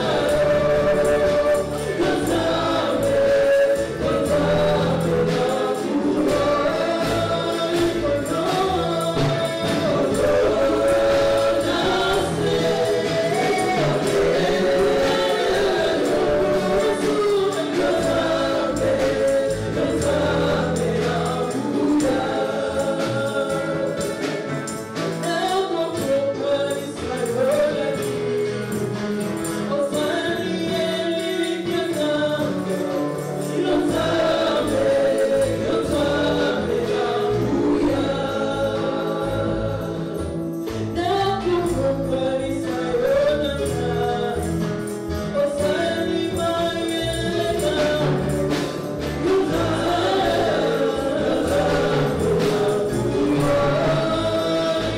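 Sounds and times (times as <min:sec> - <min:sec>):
band with bass line: 0:00.0 - 0:54.9
choir singing gospel: 0:00.0 - 0:54.9.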